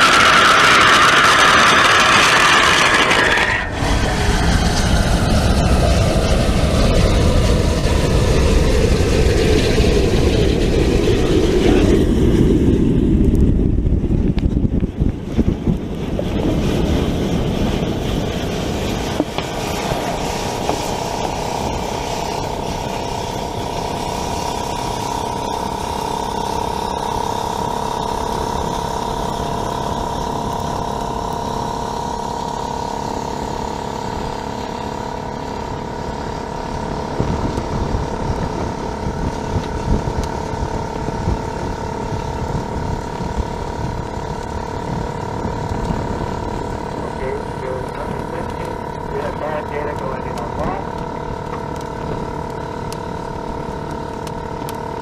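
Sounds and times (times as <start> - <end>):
roar of propellant fire: 0.0 - 55.0.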